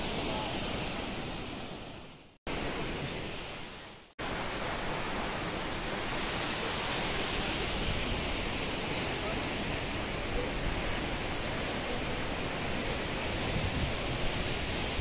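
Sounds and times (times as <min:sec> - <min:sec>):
distant waterfall: 0:00.0 - 0:15.0
wind: 0:00.0 - 0:15.0.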